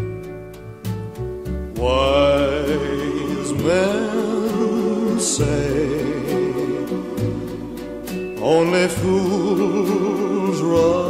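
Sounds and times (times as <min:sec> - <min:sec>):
instrumental accompaniment: 0:00.0 - 0:11.0
person singing with vibrato: 0:01.8 - 0:11.0
steady ticking beat: 0:01.9 - 0:11.0.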